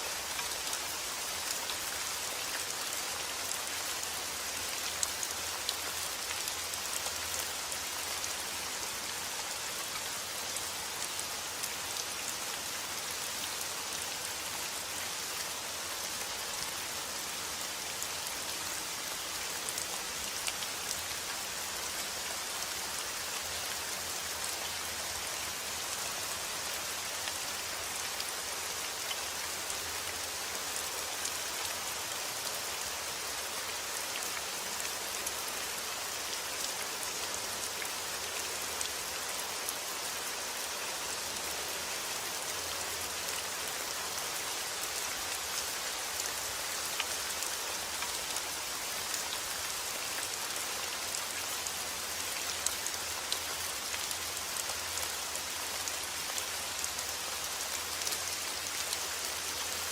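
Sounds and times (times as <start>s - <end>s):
rain pattering: 0.1s - 59.9s.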